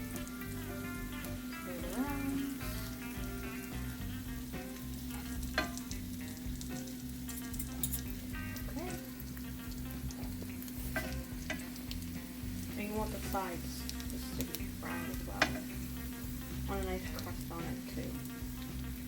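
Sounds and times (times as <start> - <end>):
bread sizzling in oil: 0.0 - 19.0.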